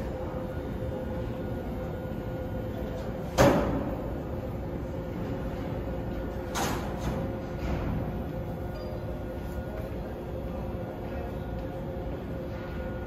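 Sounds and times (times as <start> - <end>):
constant equipment tone: 0.0 - 13.0
subway train humming: 0.0 - 13.0.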